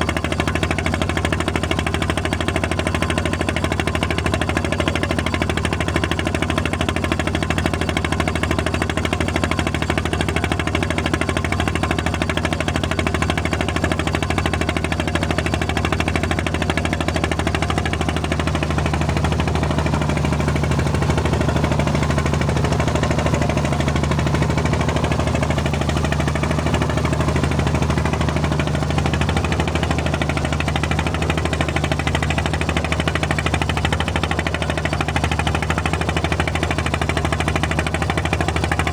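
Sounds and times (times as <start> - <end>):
propeller plane drone in cabin: 0.0 - 38.9.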